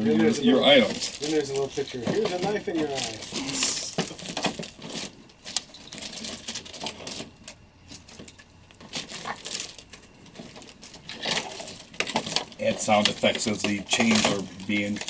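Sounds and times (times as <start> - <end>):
plastic packaging crinkling: 0.7 - 15.0.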